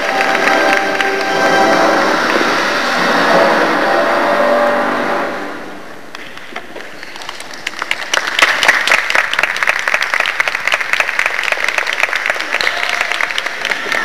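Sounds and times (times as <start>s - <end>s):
audience applauding: 0.0s - 3.8s, 6.1s - 14.0s.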